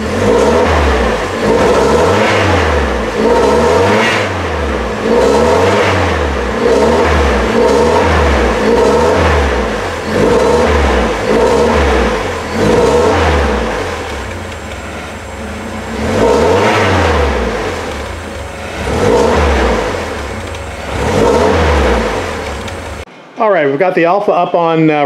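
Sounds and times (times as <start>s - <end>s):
car engine revving: 0.0s - 23.1s.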